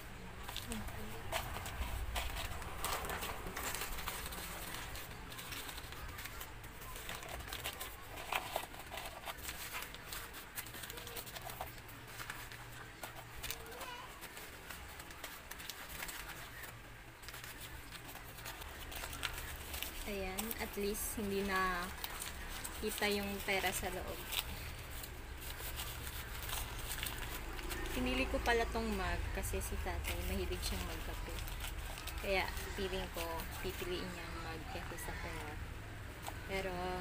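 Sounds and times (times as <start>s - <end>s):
newspaper rustling and crinkling: 0.0s - 37.0s.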